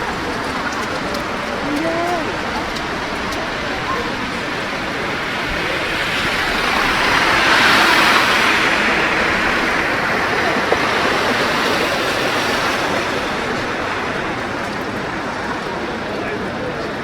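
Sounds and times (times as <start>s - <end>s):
tyres hissing on slushy road: 0.0s - 17.0s.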